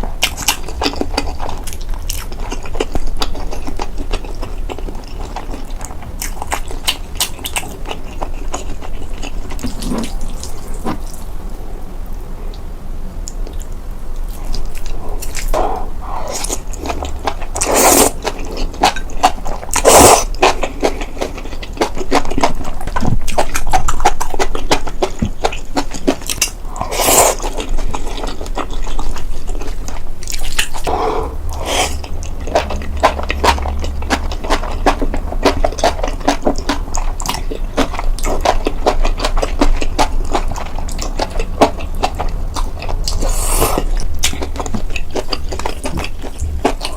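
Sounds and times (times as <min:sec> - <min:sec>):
food being bitten and chewed: 0:00.0 - 0:11.4, 0:13.3 - 0:46.9.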